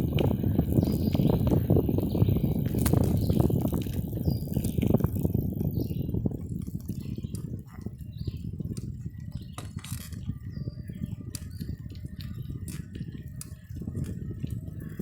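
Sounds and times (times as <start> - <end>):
bicycle clicks and rattles: 0.0 - 15.0
wind and road noise rumble: 0.0 - 15.0.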